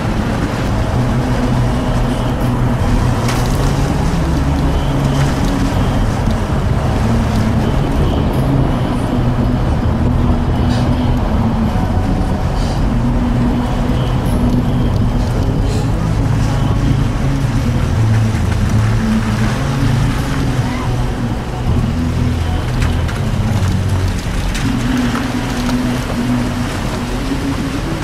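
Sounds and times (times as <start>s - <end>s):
road noise: 0.0s - 28.0s
vehicle engine drone: 0.0s - 28.0s.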